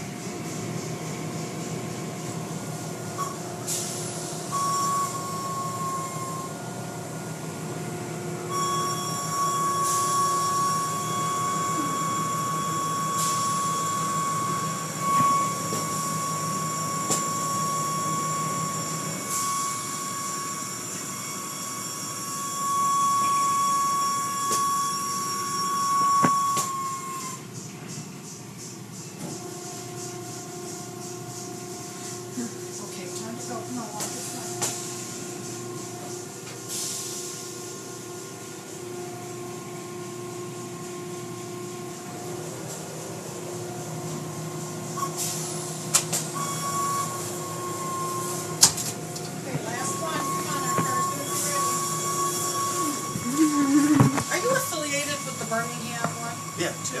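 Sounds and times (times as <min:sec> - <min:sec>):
high-pitched machine whine: 0:00.0 - 0:57.0
low machinery hum: 0:00.0 - 0:57.0.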